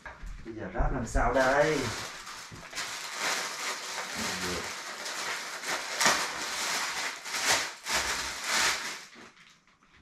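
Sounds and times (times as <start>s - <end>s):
packaging rustling: 1.4s - 9.7s.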